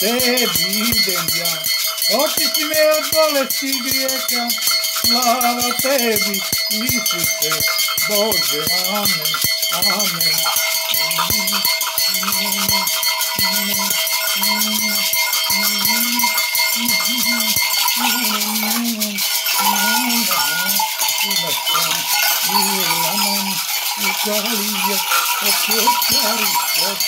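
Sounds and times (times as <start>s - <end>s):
gourd rattles with jingling bells: 0.0s - 27.0s
low voice chanting: 0.0s - 27.0s.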